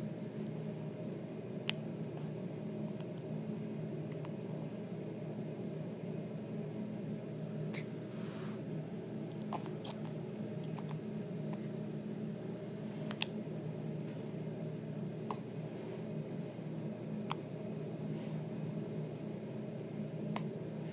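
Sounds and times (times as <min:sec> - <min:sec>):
steady background hum: 0:00.0 - 0:20.9.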